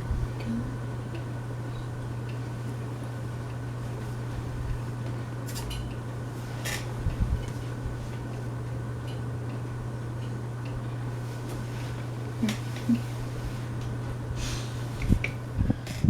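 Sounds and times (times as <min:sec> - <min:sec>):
ceiling fan motor hum: 0:00.0 - 0:16.0.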